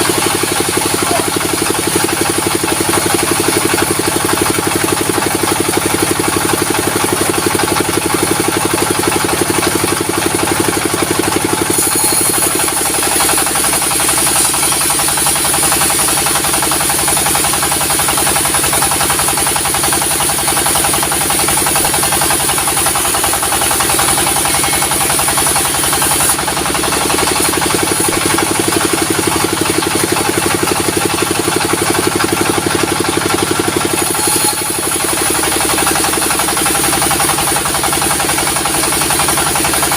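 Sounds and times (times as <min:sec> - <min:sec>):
saw cutting through timber: 0:00.0 - 0:39.9
sawmill engine running: 0:00.0 - 0:39.9.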